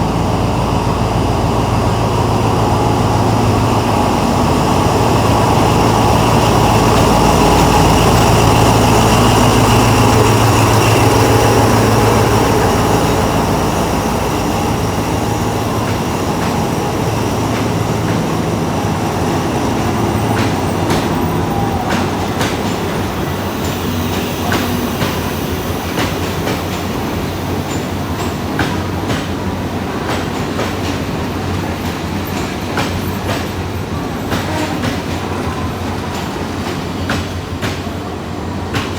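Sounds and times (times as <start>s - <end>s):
diesel train engine drone: 0.0s - 38.9s
train wheels clacking: 0.0s - 38.9s.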